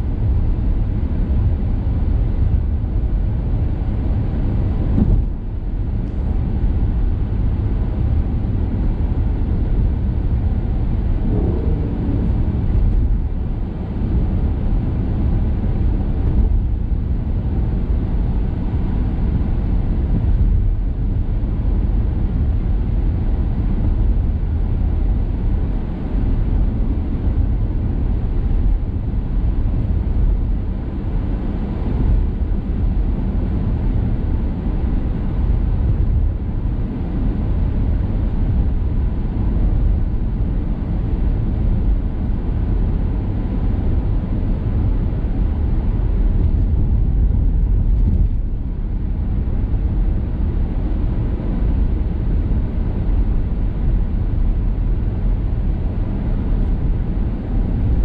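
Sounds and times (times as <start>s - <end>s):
car driving on highway from inside: 0.0s - 58.0s.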